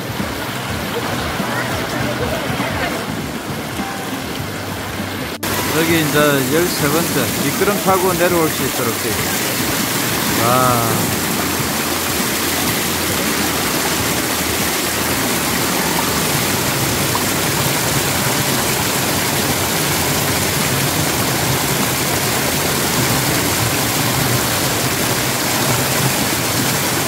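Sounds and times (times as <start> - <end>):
stream rushing over rock: 0.0 - 27.0.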